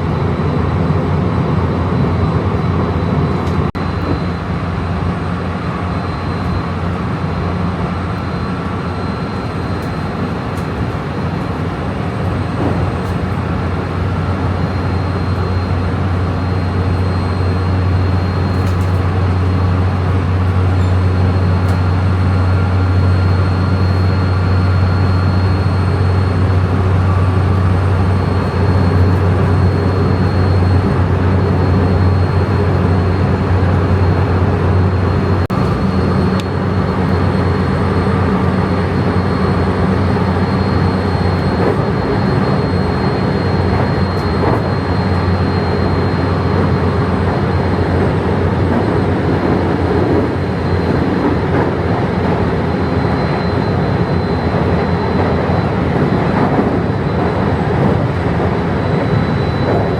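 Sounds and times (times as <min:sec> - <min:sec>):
train wheels rumbling on track: 0:00.0 - 0:59.9
thin high whine: 0:01.8 - 0:59.9.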